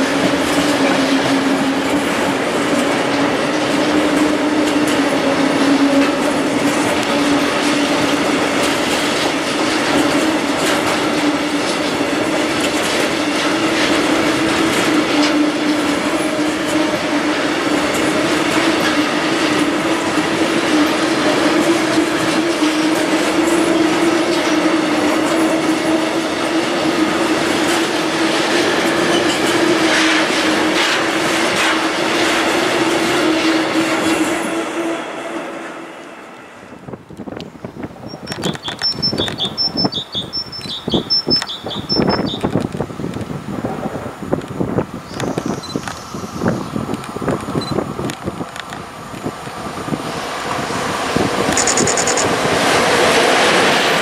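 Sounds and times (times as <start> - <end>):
rhythmic rail clicks: 0.0 - 34.7, 37.1 - 43.4, 44.3 - 54.0
train wheels rumbling on rails: 0.0 - 54.0.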